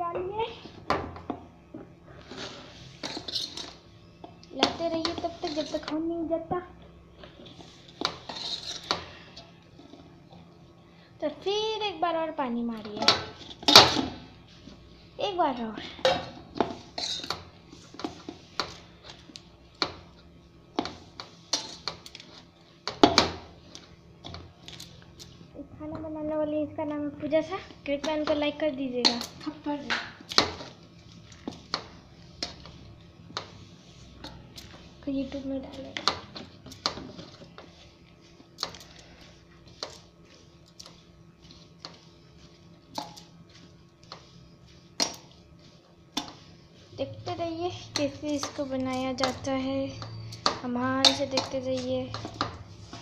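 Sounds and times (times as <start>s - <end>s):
hand mixing dough: 0.0s - 53.0s.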